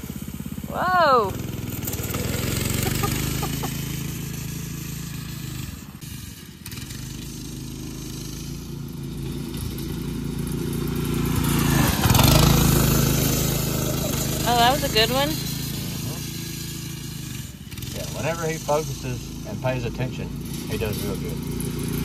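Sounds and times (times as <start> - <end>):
go-kart engine running: 0.0 - 22.0.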